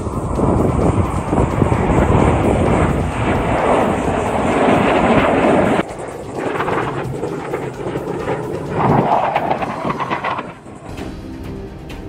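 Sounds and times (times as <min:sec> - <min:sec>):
quiet jet rumble: 0:00.0 - 0:11.3
jet engine roar overhead: 0:00.0 - 0:12.0.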